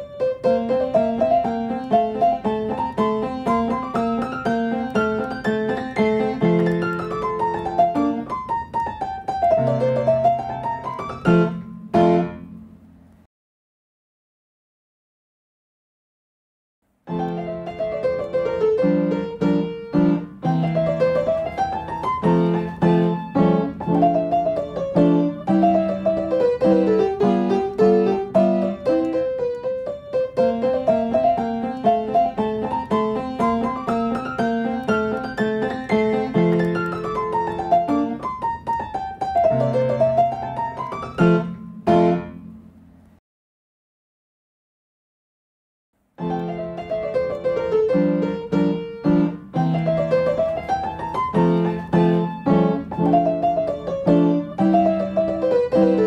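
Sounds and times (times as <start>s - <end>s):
piano music: 0.0s - 12.9s, 17.0s - 43.0s, 46.2s - 56.0s.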